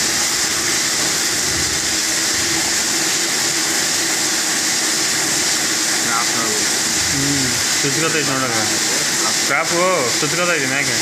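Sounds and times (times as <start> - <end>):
coolant spray and cutting hiss: 0.0 - 11.0.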